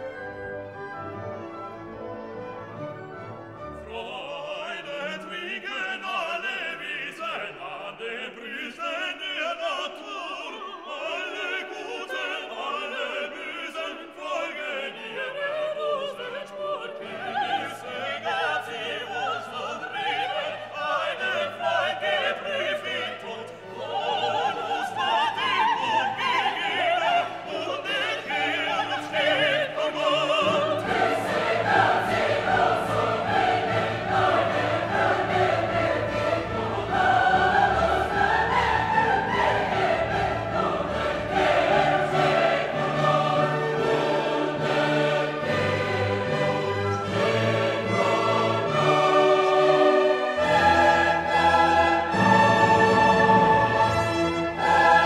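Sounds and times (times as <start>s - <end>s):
classical singing with orchestra: 0.0s - 55.0s.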